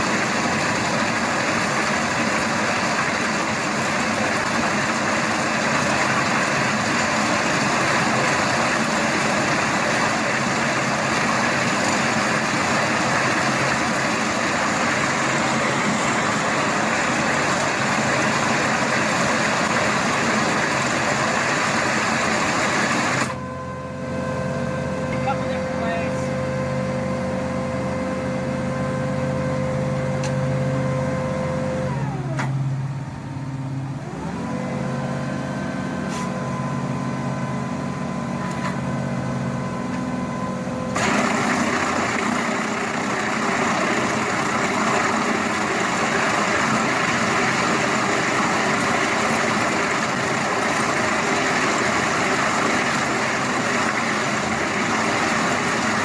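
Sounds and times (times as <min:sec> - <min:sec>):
rough machine noise: 0:00.0 - 0:32.8, 0:33.8 - 0:56.0
diesel engine droning: 0:00.0 - 0:56.0.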